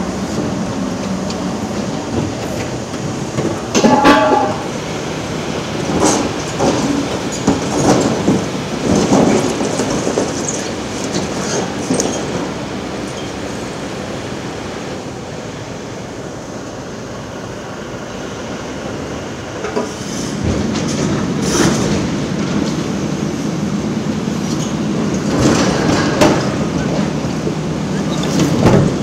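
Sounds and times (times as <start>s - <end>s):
steel tracks squealing and clanking: 0.0s - 14.1s, 19.3s - 29.0s
diesel engine running: 0.0s - 29.0s.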